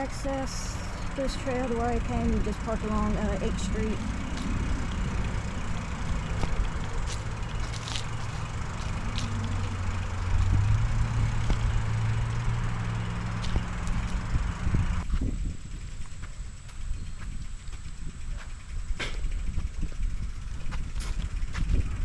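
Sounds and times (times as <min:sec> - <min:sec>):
passing motor vehicle hum: 0:00.0 - 0:22.0
wind and road noise: 0:00.0 - 0:22.0.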